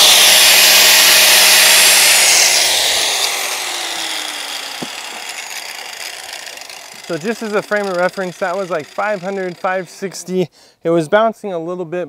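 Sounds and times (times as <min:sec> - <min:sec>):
angle grinder whining: 0:00.0 - 0:10.2
grinder spinning down: 0:00.0 - 0:10.2.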